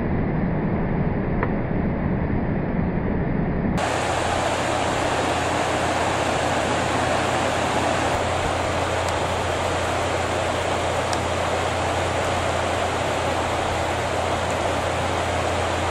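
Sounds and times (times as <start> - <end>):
low hum: 0.0 - 15.9
rushing background noise: 2.2 - 15.9.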